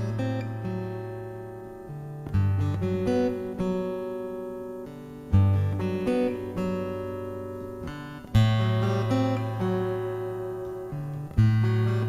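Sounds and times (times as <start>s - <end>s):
fingerpicked acoustic guitar: 0.0s - 12.0s.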